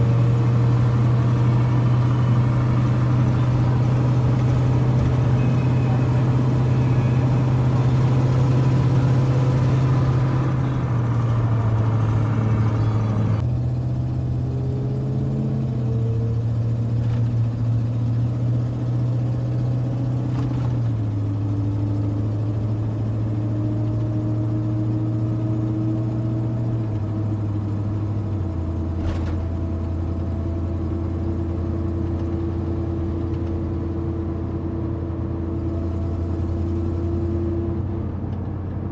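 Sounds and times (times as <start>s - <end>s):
pickup truck engine drone: 0.0s - 38.9s
road noise: 0.0s - 38.9s.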